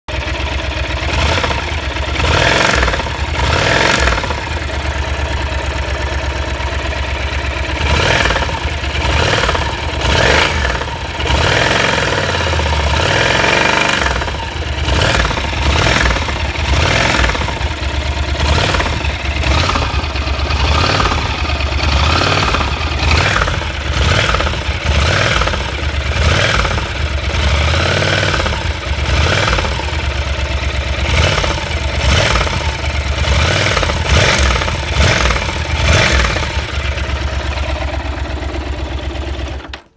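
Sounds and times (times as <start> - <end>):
engine knocking: 0.0 - 39.9
motorcycle engine idling and revving: 0.0 - 39.9.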